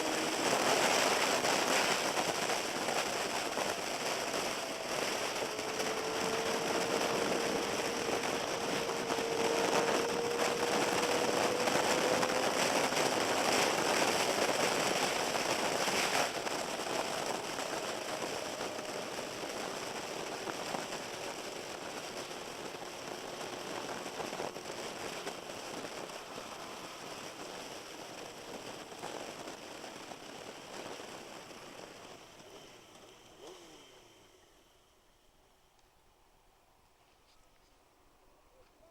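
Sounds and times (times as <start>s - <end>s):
crackling wind noise: 0.0s - 35.0s
motorcycle engine: 0.0s - 35.2s.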